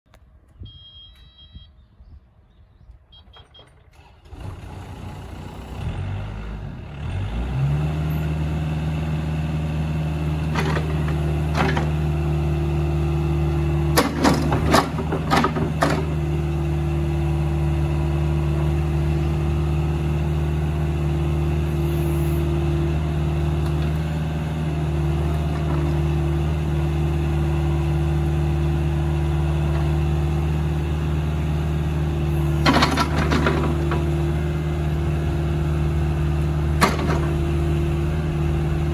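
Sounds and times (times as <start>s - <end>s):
excavator diesel engine: 3.1s - 38.9s.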